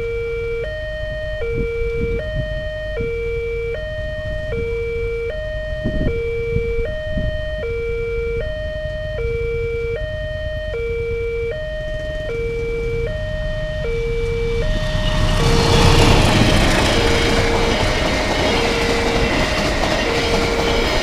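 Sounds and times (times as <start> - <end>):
level crossing two-tone alarm: 0.0 - 21.0
train running over crossing: 0.0 - 21.0.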